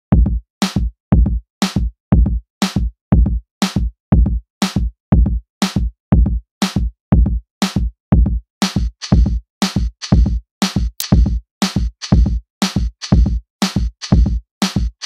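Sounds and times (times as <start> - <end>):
drum machine beat: 0.2 - 15.0.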